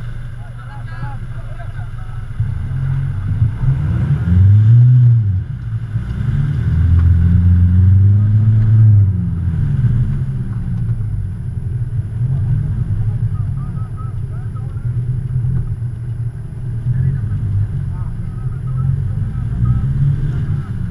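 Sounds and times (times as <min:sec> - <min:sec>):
off-road engine revving: 0:00.0 - 0:20.9.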